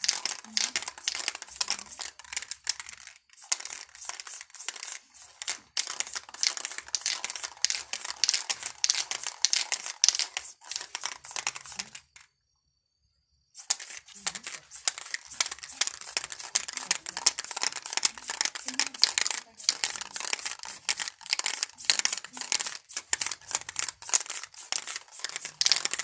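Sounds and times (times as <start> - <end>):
spray paint can hissing: 0.0 - 12.2, 13.6 - 26.0.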